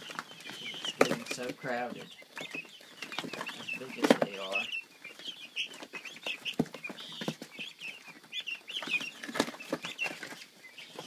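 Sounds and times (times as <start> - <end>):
chicks chirping: 0.0 - 11.0.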